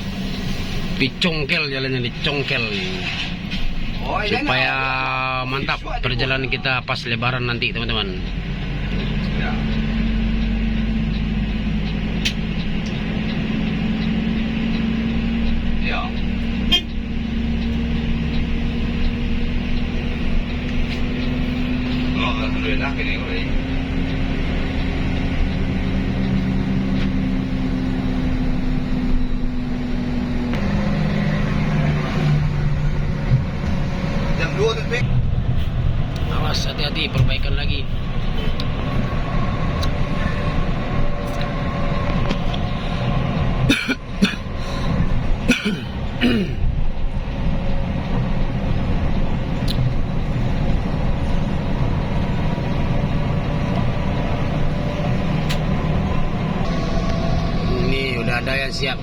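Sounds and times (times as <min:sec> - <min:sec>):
engine drone in vehicle cab: 0:00.0 - 0:59.0
road rumble: 0:00.0 - 0:59.0.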